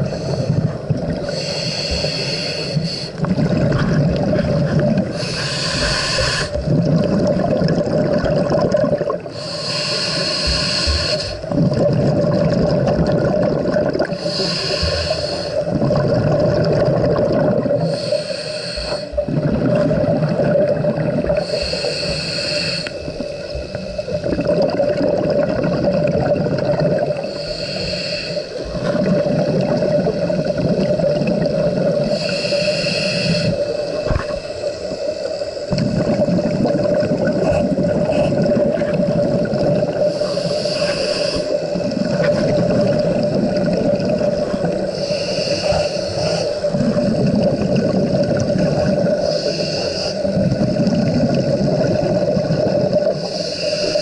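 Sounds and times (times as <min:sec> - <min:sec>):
diver breathing through regulator: 0:00.0 - 0:07.2, 0:09.3 - 0:11.8, 0:14.0 - 0:15.8, 0:17.4 - 0:20.0, 0:20.7 - 0:24.5, 0:27.0 - 0:52.3, 0:52.9 - 0:54.0
bubbly hissing exhalations: 0:00.0 - 0:54.0.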